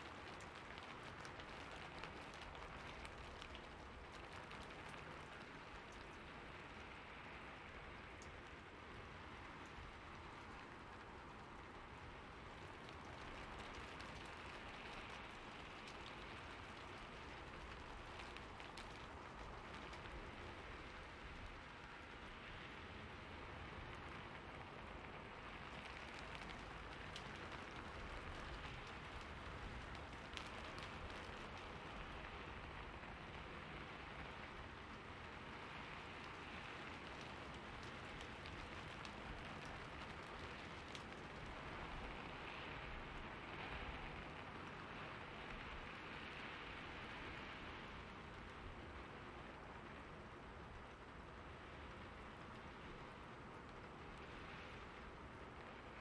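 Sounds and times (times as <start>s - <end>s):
raindrop ticks: 0.0s - 56.0s
steady rainfall: 0.0s - 56.0s.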